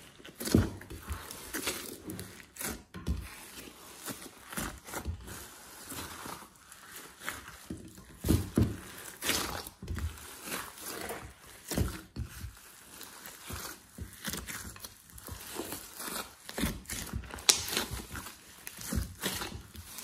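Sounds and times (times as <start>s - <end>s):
slime squelching: 0.0s - 20.0s.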